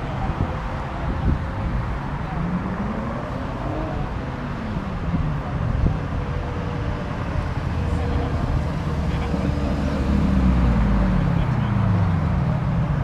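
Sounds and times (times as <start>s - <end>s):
cars driving by: 0.0s - 13.0s.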